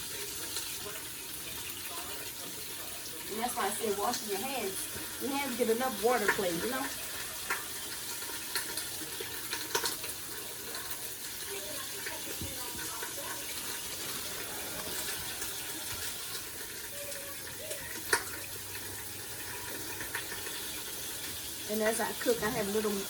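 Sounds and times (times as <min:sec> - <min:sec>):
kitchen tap running: 0:00.0 - 0:23.0.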